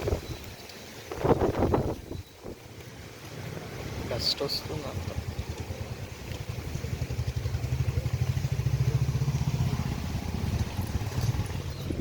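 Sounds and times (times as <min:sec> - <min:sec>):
wind buffeting microphone: 0:00.0 - 0:02.7, 0:05.0 - 0:12.0.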